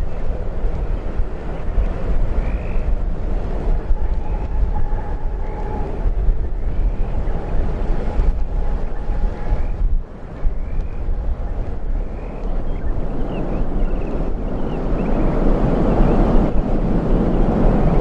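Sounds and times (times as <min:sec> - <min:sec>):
faint steady whine: 0:00.0 - 0:18.0
wind buffeting microphone: 0:00.0 - 0:18.0.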